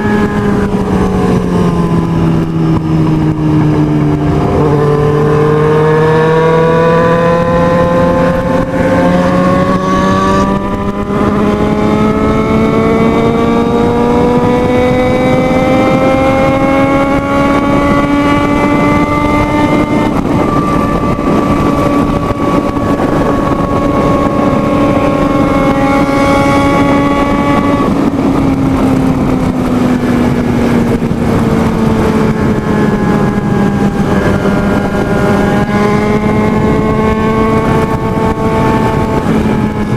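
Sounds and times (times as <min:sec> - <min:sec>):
motorcycle engine at high speed: 0:00.0 - 0:39.9
wind noise: 0:00.0 - 0:39.9.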